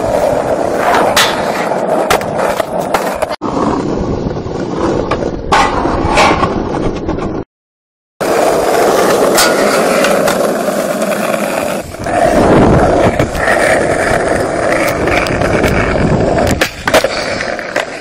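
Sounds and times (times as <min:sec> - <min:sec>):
skateboard wheels rolling: 0:00.0 - 0:07.4, 0:08.2 - 0:18.0.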